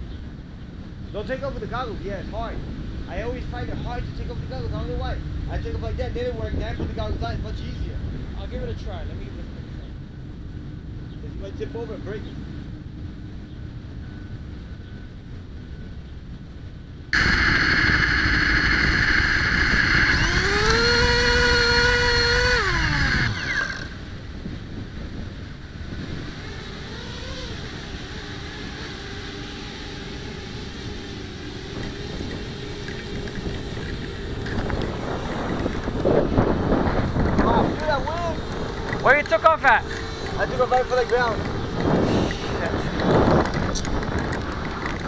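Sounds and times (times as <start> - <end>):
quadcopter motors whirring: 1.0 - 13.1, 17.2 - 45.0.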